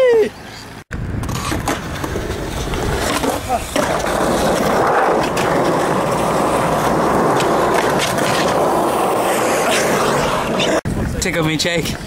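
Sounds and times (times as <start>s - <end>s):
skateboard wheels rolling on asphalt: 0.4s - 12.0s.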